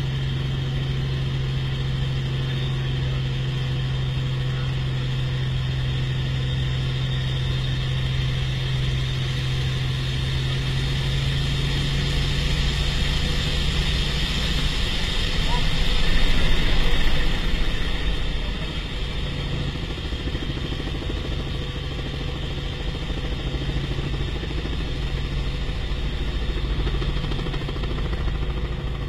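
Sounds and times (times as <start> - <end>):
helicopter engine running: 0.0 - 29.0.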